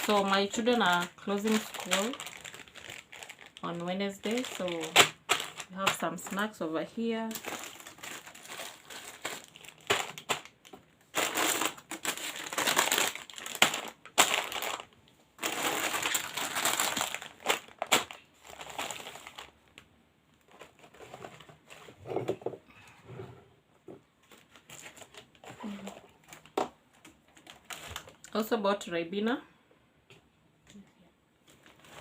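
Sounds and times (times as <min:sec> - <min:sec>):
bags and packets crinkling: 0:00.0 - 0:22.0, 0:24.2 - 0:28.4, 0:31.4 - 0:32.0.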